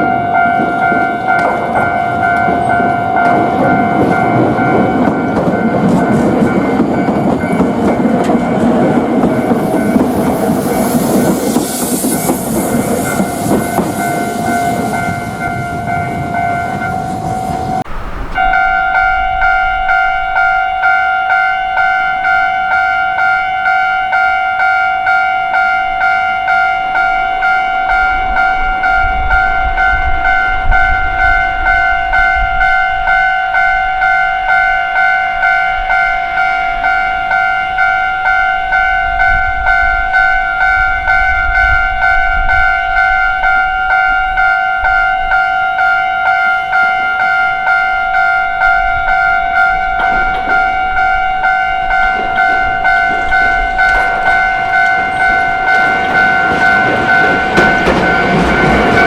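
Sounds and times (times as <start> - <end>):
railroad crossing bell ringing: 0.0 - 59.0.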